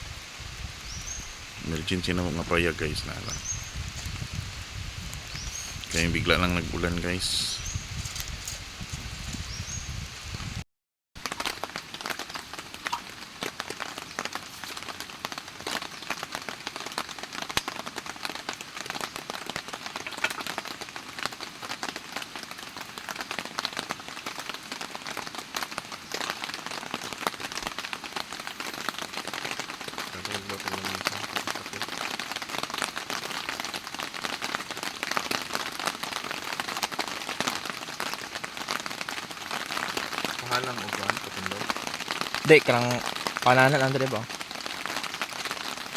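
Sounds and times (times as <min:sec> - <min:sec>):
rain pattering: 0:00.0 - 0:10.6, 0:11.2 - 0:45.9.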